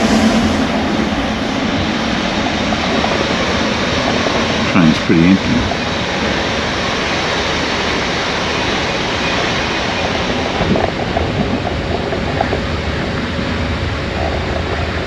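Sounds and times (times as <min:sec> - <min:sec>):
moving train rumbling: 0:00.0 - 0:15.0.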